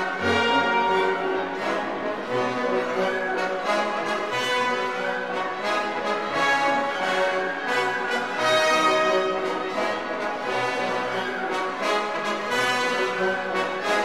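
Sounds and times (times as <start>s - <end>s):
orchestral music with brass: 0.0s - 14.0s.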